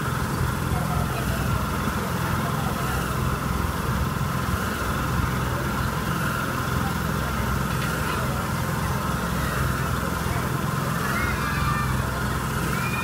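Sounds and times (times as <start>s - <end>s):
fairground ride mechanical hum: 0.0s - 13.0s.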